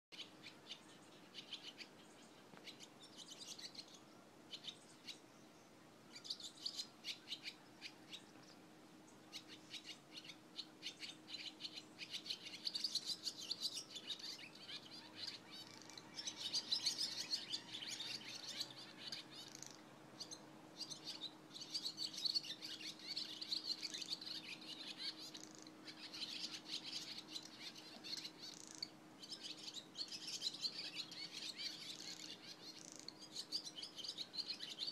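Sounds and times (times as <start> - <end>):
swallows twittering: 0.1 - 34.9.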